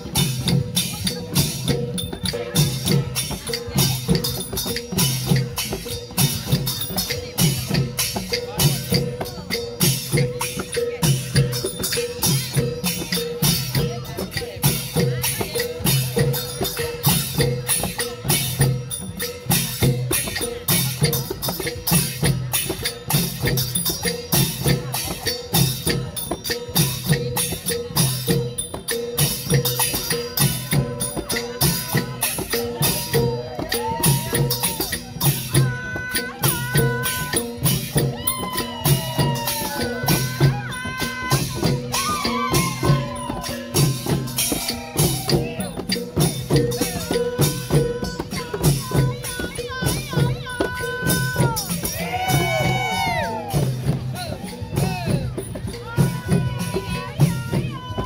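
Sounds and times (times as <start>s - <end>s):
hand cymbals clashing: 0.0s - 58.0s
hand drums thumping: 0.0s - 58.0s.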